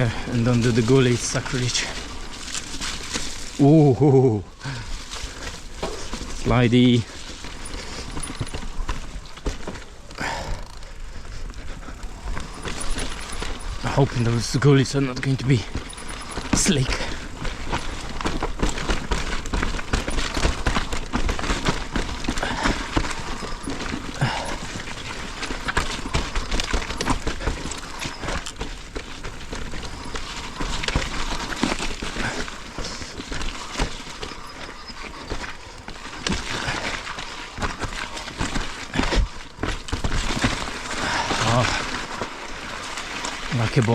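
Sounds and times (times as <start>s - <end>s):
bike frame and chain rattling: 0.0s - 43.9s
bike tyres rolling over dirt: 0.0s - 43.9s.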